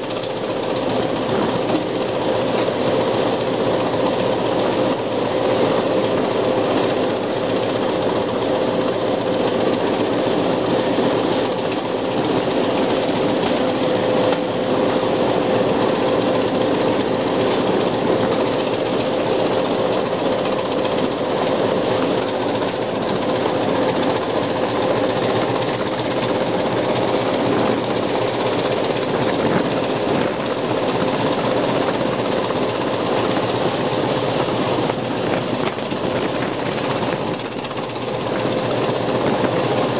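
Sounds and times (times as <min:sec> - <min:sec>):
diesel locomotive engine throbbing: 0:00.0 - 0:39.9.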